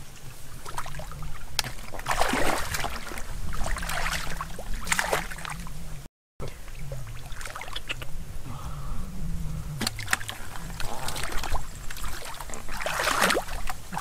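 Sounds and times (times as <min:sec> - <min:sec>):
muddy water splashing: 0:00.0 - 0:08.8, 0:09.7 - 0:14.0
low steady hum: 0:00.0 - 0:14.0.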